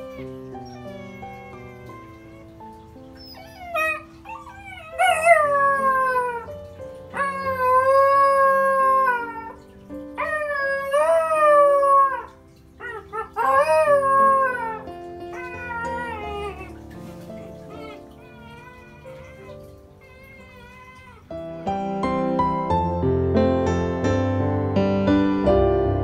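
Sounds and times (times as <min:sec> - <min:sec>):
dog howling: 0:00.0 - 0:21.3
dog yipping: 0:00.0 - 0:21.3
background music sustained notes: 0:00.0 - 0:26.0.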